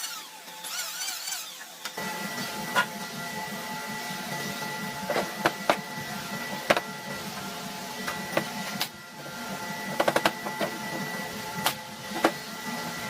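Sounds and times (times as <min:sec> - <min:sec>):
machine hum and whine: 0:00.0 - 0:13.0.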